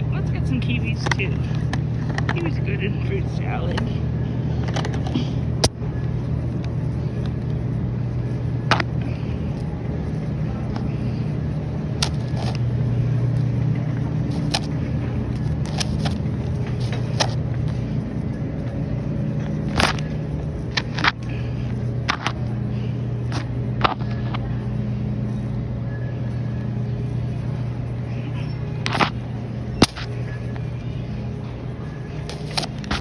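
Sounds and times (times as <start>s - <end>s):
shopping cart wheels rumbling: 0.0s - 33.0s.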